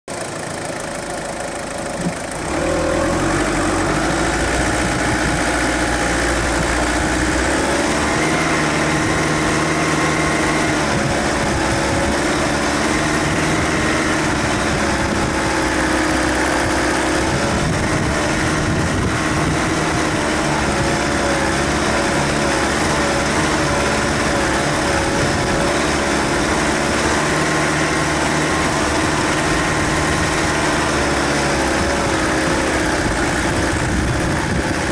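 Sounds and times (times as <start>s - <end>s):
diesel engine running at low revs: 0.1s - 34.9s.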